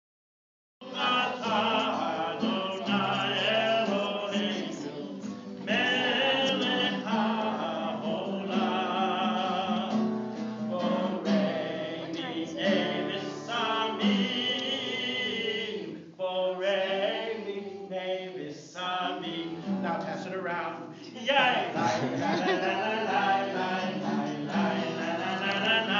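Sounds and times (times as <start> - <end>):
acoustic guitar: 0.8 - 25.9
man singing: 0.8 - 25.9.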